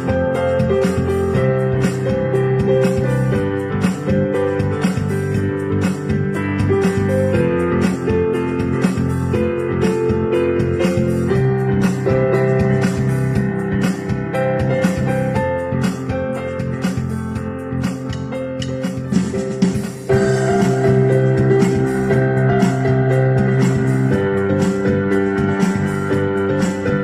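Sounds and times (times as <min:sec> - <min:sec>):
instrumental music: 0:00.0 - 0:27.0.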